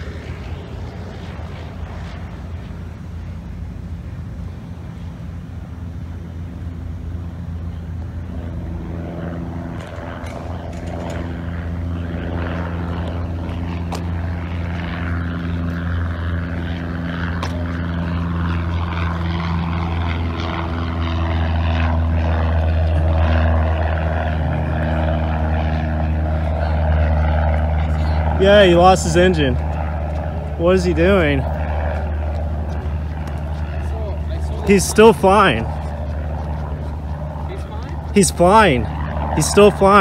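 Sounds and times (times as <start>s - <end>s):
propeller airplane engine droning: 0.0s - 40.0s.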